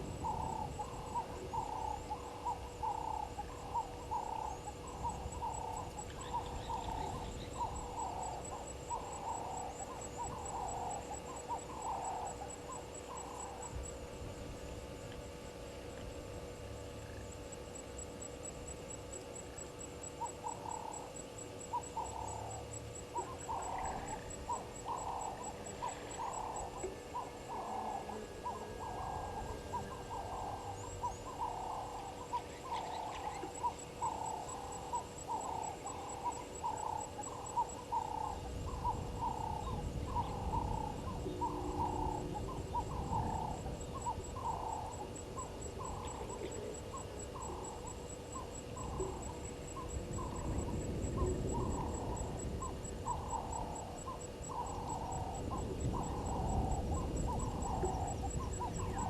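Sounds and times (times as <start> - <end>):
bird hooting calls: 0.0 - 14.0, 18.4 - 59.0
faint high-pitched pulsing: 0.0 - 59.0.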